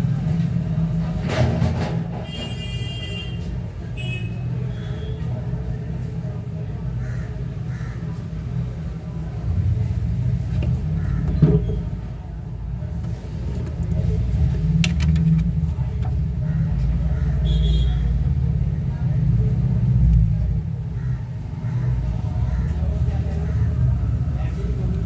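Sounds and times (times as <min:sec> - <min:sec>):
low continuous rumble: 0:00.0 - 0:25.0.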